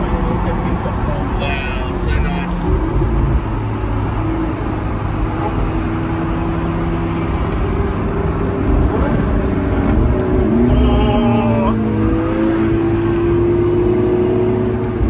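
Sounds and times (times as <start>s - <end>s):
car engine cruising: 0.0s - 15.0s
tyre and road noise: 0.0s - 15.0s.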